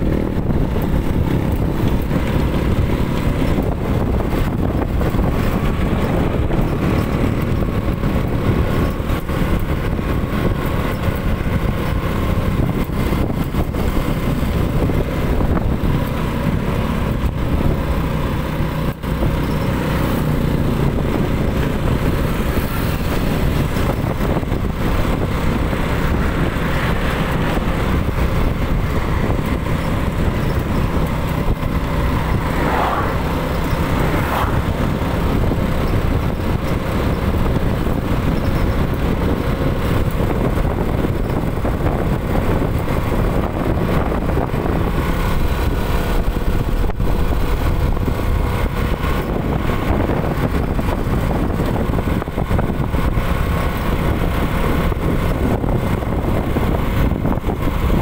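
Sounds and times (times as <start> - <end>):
motor scooter engine: 0.0 - 58.0
road and wind noise: 0.0 - 58.0.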